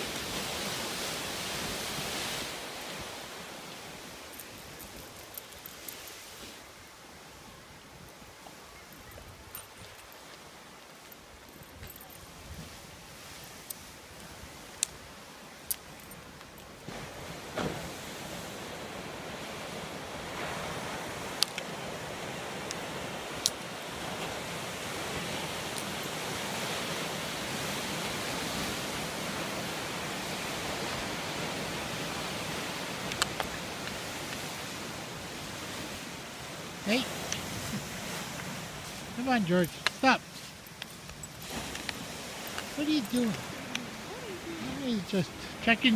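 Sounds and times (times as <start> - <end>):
waves breaking on shore: 0.0 - 45.9.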